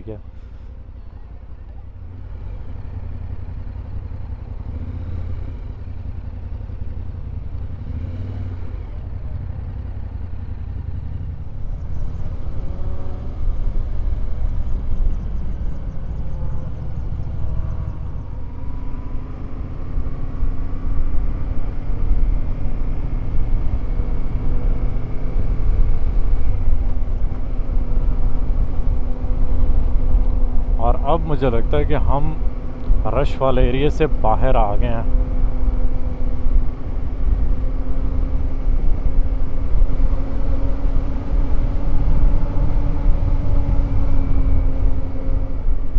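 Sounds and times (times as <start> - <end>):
motorcycle engine accelerating: 1.9 - 45.9.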